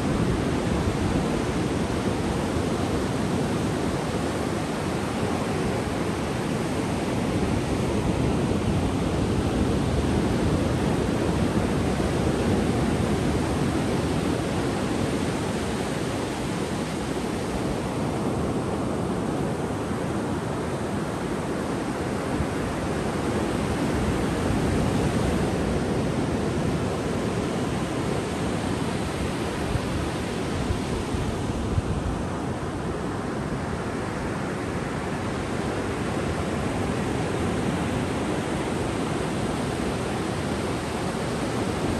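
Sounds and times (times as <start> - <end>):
ocean surf washing on beach: 0.0 - 41.9.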